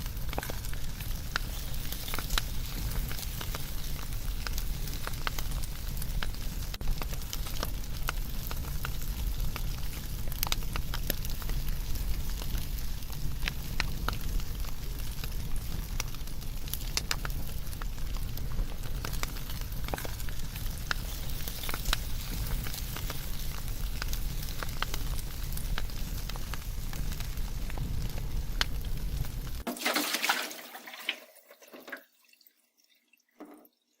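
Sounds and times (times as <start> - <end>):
wood fire crackling: 0.0 - 31.2.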